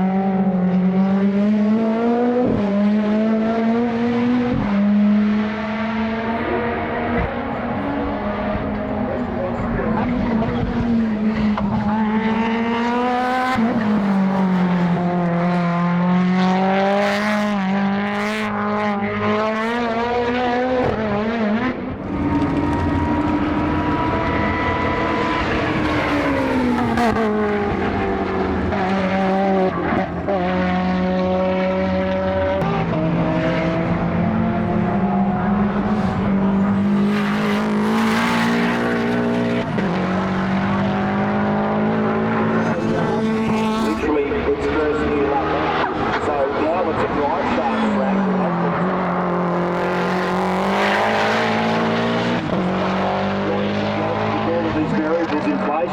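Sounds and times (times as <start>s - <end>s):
race car engine running hard: 0.0s - 55.9s.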